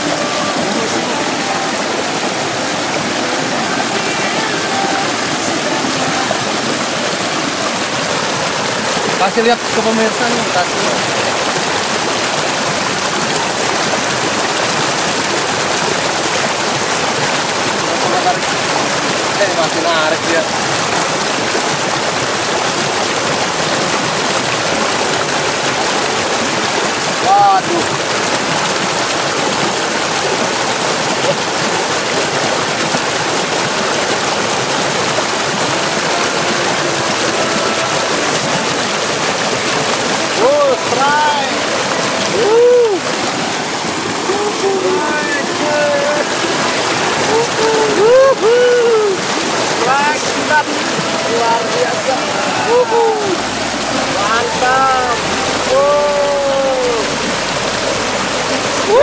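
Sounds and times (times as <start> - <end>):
rushing stream water: 0.0 - 59.0.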